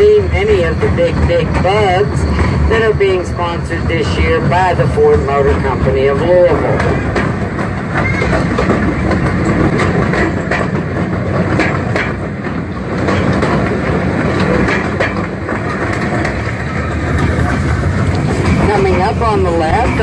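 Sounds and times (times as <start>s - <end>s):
train rumbling: 0.0s - 20.0s
wheels clacking over rails: 0.0s - 20.0s.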